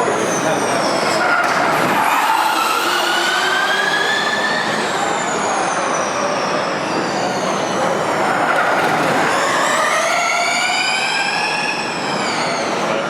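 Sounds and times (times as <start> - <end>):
electric race cars whining: 0.0 - 13.0
tyre and road noise: 0.0 - 13.0.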